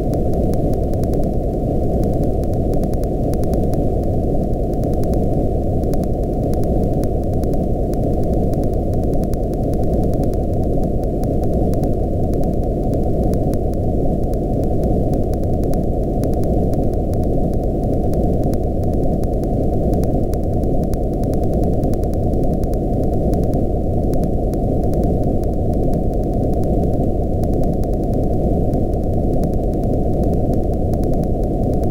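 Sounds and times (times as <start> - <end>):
faint crackle of clicks: 0.0 - 31.9.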